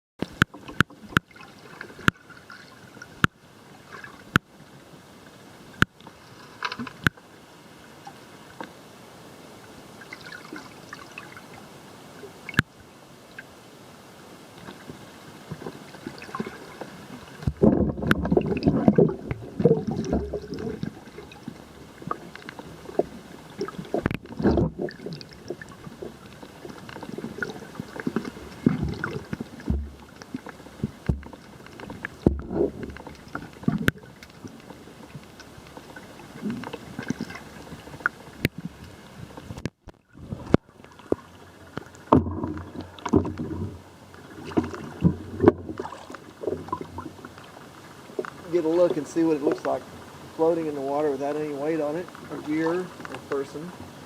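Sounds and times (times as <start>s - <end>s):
water sloshing against microphone: 0.2s - 54.0s.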